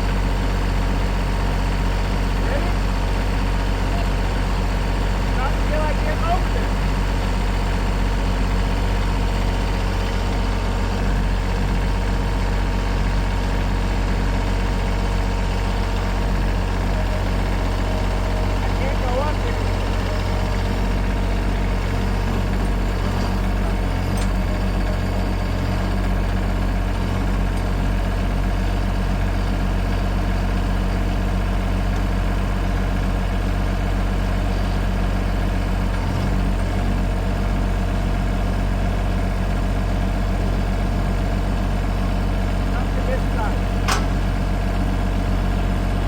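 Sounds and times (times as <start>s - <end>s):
gasoline engine running: 0.0s - 46.0s.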